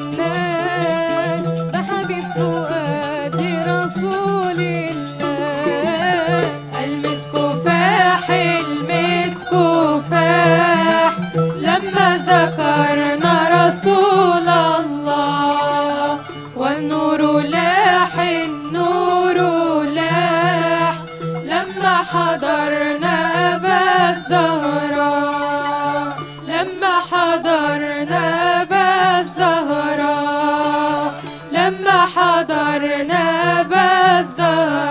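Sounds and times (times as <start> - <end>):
low oud accompaniment: 0.0 - 34.9
women's vocal group singing: 0.0 - 34.9.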